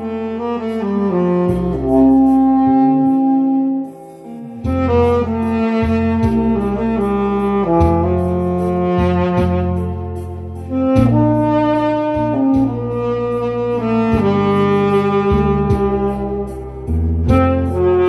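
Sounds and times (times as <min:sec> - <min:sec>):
backing track with bass and drums: 0:00.0 - 0:18.0
tenor saxophone melody: 0:00.0 - 0:18.0.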